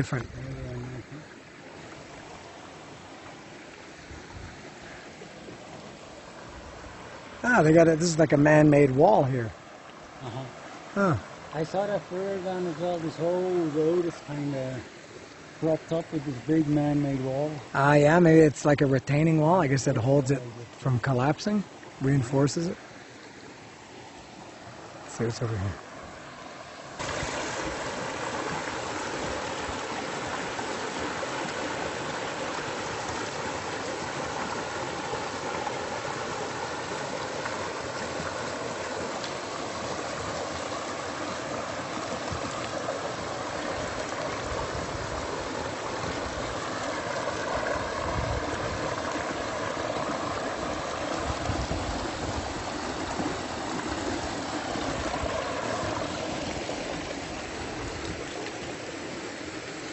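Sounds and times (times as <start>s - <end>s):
river water gurgling: 0.0s - 59.9s.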